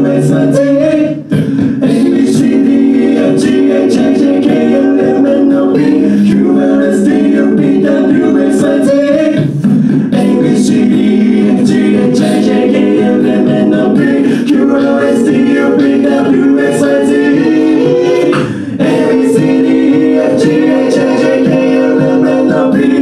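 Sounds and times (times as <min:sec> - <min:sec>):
beatboxing vocal percussion: 0:00.0 - 0:23.0
group singing in harmony: 0:00.0 - 0:23.0.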